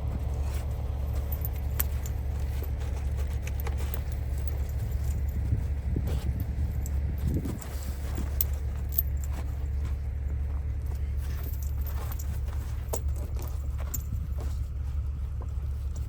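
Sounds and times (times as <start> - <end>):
light rattles and clicks: 0.0 - 16.0
truck engine drone: 0.0 - 16.0.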